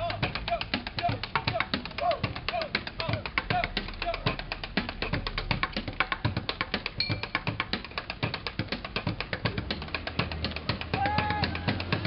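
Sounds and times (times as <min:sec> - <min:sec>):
music with fast drum beat: 0:00.0 - 0:12.0.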